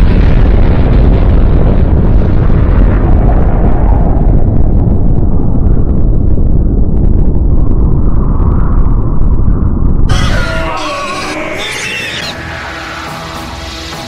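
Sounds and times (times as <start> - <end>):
huge blast rumble: 0.0 - 14.0.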